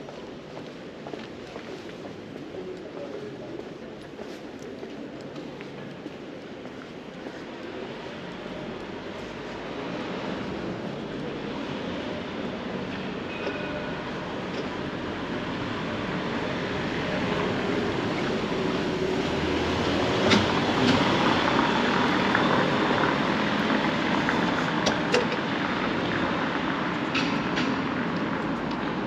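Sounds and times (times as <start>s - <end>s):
city street noise: 0.0s - 29.0s.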